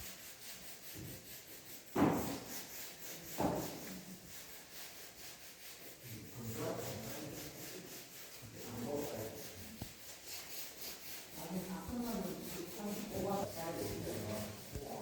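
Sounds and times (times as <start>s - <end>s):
hand sanding strokes: 0.0s - 15.0s.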